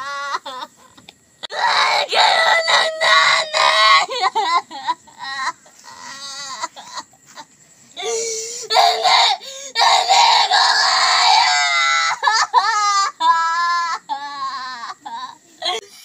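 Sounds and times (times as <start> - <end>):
woman sobbing cries: 0.0 - 0.9, 1.6 - 10.0, 10.8 - 15.9.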